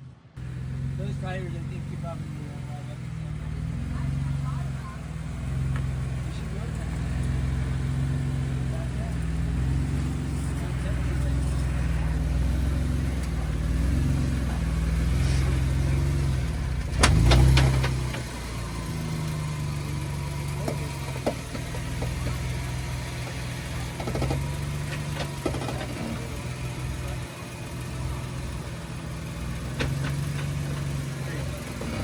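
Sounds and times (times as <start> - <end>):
engine running low: 0.0 - 32.0.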